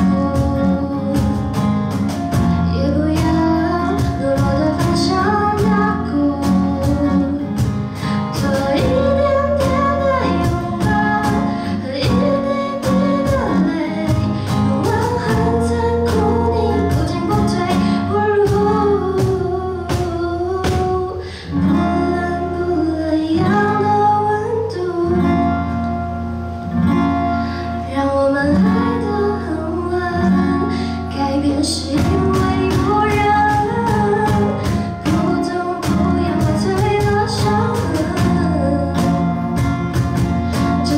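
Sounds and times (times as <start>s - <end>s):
woman singing into microphone: 0.0s - 25.8s, 27.4s - 40.9s
strummed acoustic guitar: 0.0s - 40.9s.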